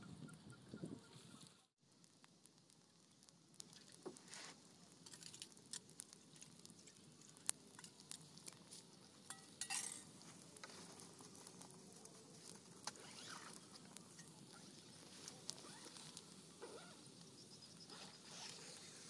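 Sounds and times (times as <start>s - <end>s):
twig fire crackling: 1.1s - 19.0s.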